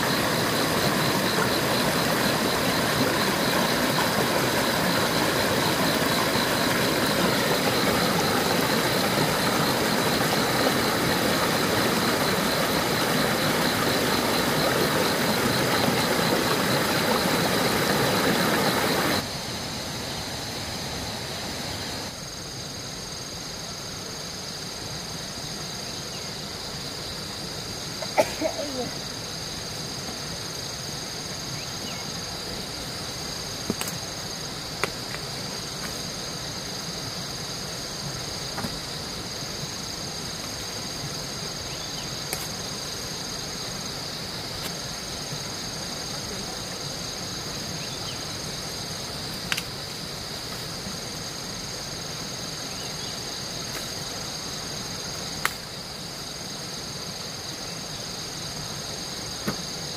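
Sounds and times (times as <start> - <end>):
insect chorus drone: 0.0 - 59.9.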